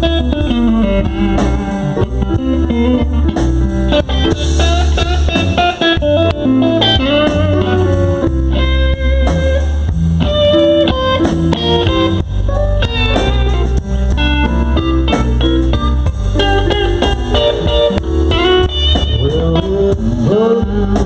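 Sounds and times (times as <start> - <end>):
band backing: 0.0 - 21.0
electric guitar blues lead: 0.0 - 21.0
steady bass line: 0.0 - 21.0.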